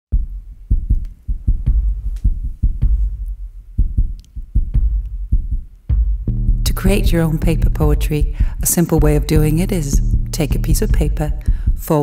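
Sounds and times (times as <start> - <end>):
music with deep bass thump: 0.1 - 12.0.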